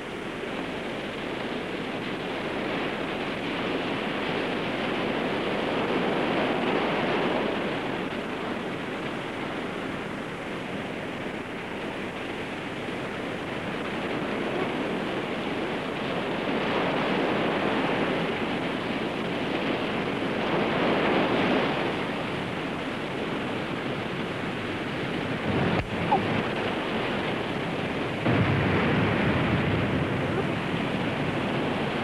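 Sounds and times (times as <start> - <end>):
surf: 0.0 - 32.0
wind: 0.0 - 32.0.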